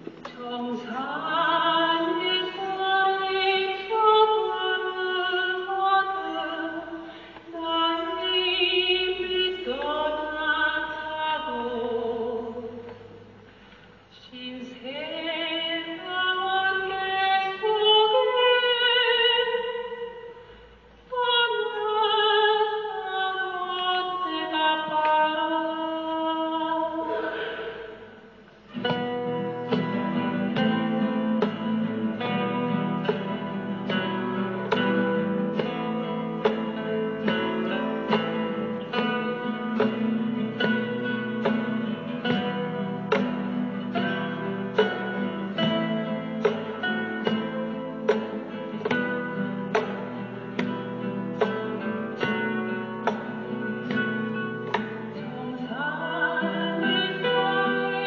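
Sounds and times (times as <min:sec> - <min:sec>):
woman singing with vibrato: 0:00.0 - 0:13.3, 0:14.1 - 0:48.2, 0:51.1 - 0:58.0.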